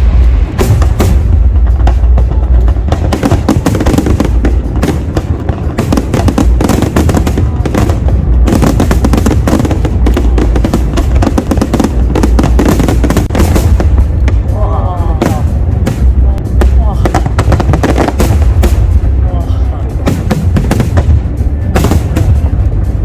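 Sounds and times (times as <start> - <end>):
deep low rumble: 0.0 - 23.0
fireworks bangs and crackle: 0.0 - 23.0.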